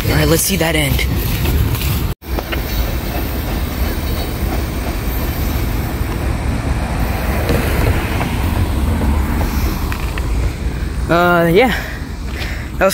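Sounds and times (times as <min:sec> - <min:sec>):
freight train wheels rumbling: 0:00.0 - 0:12.9.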